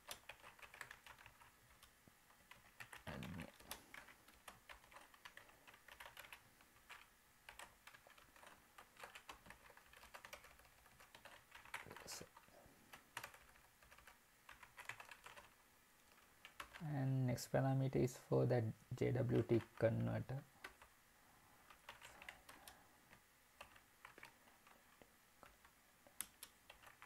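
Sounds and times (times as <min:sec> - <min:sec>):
computer keyboard typing: 0:00.0 - 0:16.8, 0:20.6 - 0:20.9, 0:21.6 - 0:27.0.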